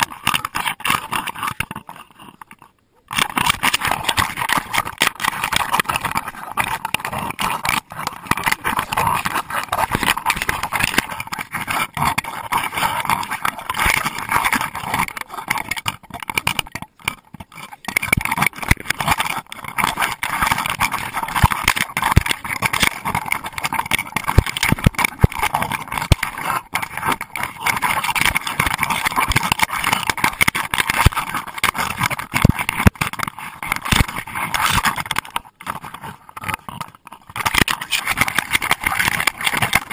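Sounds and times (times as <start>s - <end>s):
camera housing knocking and rattling: 0.0s - 39.9s.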